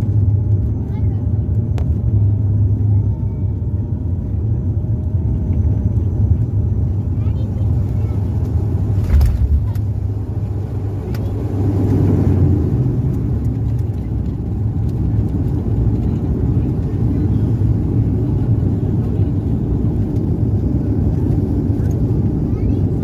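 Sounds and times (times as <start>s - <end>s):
aircraft rumble: 0.0s - 23.0s.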